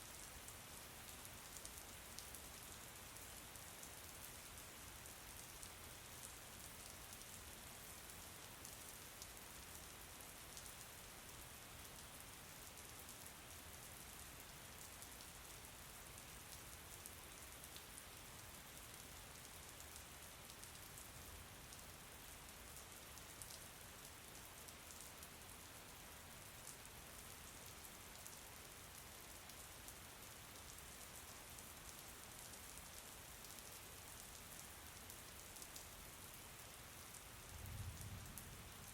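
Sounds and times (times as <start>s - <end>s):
faint rain falling: 0.0s - 38.9s.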